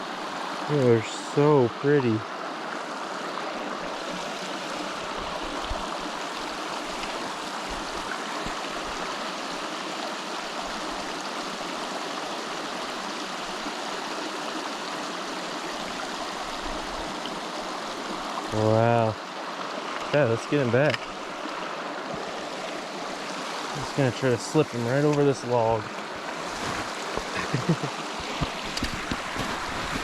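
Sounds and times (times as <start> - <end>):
small river flowing: 0.0 - 30.0.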